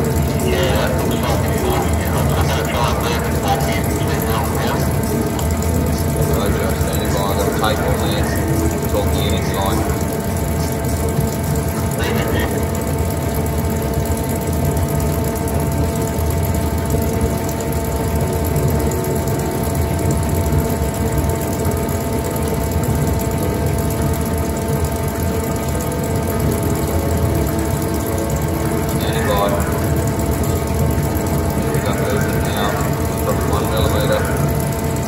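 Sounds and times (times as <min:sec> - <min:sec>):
sawmill machinery humming: 0:00.0 - 0:35.0.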